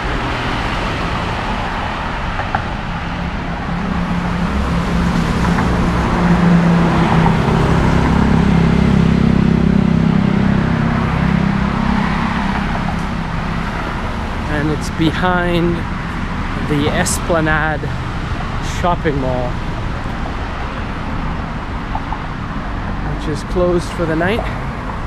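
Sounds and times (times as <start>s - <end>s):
road traffic: 0.0s - 25.0s
vehicle passing close: 0.0s - 25.0s.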